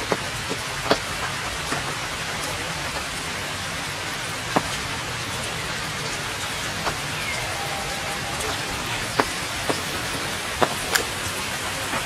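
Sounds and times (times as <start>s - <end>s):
rain falling on a puddle: 0.0s - 12.0s.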